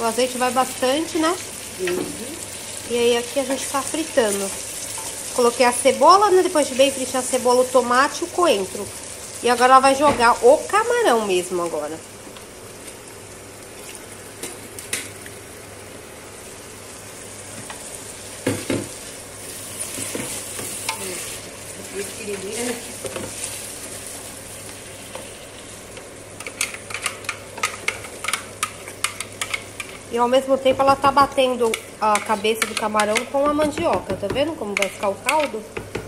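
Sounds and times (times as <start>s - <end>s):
shrimp sizzling in a pot: 0.0s - 36.0s.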